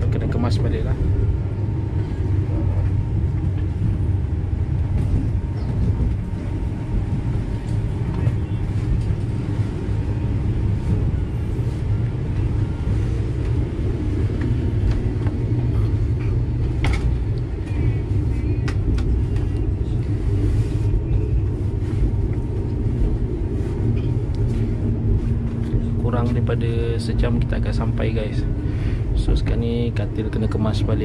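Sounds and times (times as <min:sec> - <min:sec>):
train rumble inside carriage: 0:00.0 - 0:31.0.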